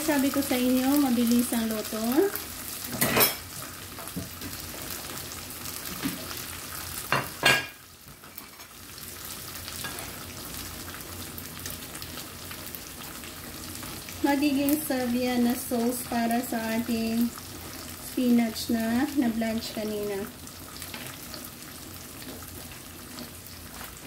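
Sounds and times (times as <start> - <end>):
beef slices sizzling in a pan: 0.0 - 24.0.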